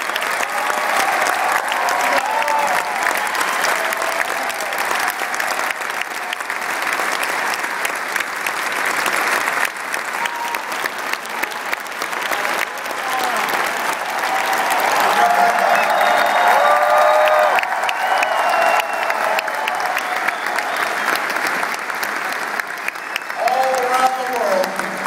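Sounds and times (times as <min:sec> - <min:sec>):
large audience applauding: 0:00.0 - 0:25.0.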